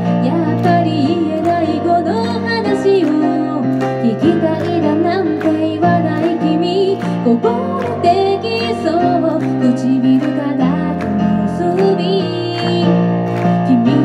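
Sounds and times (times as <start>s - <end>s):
woman singing into microphone: 0.0s - 14.0s.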